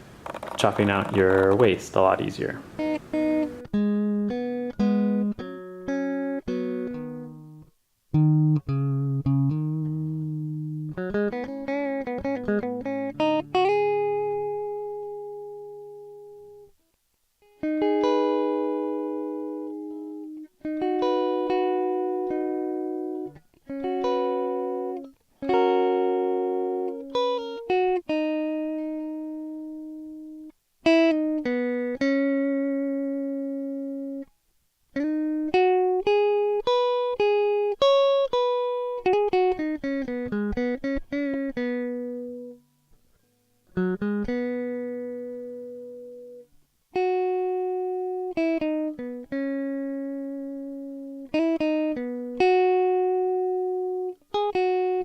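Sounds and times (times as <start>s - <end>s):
solo guitar plucking: 0.4s - 16.7s, 17.4s - 34.3s, 34.9s - 55.0s.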